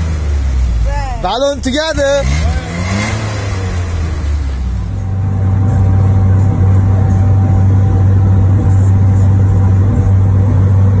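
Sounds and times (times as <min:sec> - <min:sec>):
van engine droning: 0:00.0 - 0:11.0.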